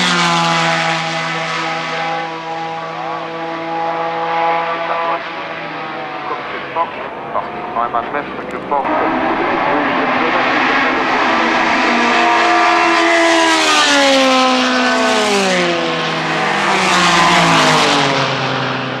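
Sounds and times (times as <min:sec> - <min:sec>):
race cars passing by: 0:00.0 - 0:19.0.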